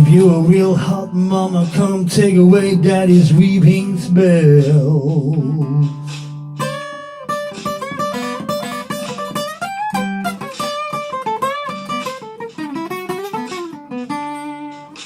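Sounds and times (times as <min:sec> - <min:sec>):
acoustic guitar blues playing: 0:00.0 - 0:15.0.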